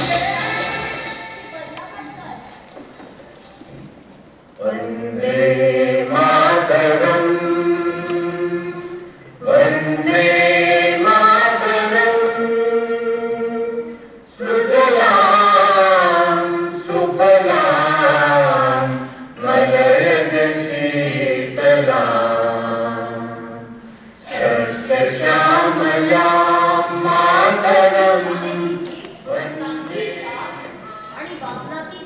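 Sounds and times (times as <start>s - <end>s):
voices singing long phrases: 4.6s - 31.7s.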